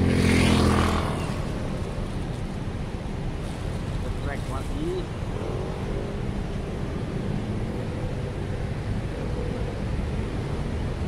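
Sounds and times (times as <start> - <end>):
distant road traffic rumble: 0.0 - 11.0
faint engine hum: 0.0 - 11.0.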